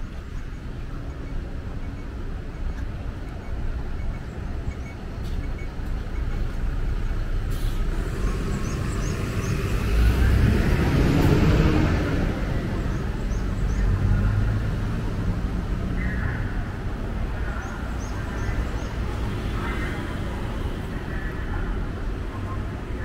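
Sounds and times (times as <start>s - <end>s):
bus engine rumbling: 0.0s - 23.0s
road traffic: 0.0s - 23.0s.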